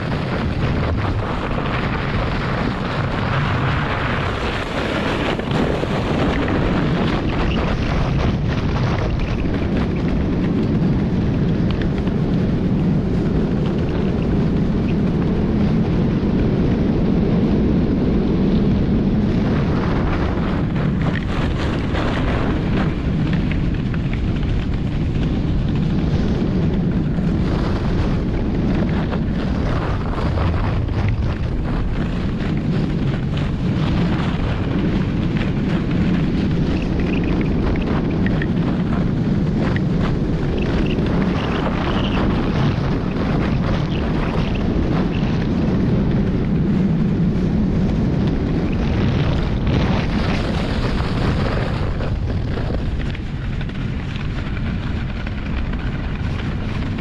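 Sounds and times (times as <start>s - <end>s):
sled runners scraping over snow: 0.0s - 57.0s
wind buffeting microphone: 0.0s - 57.0s.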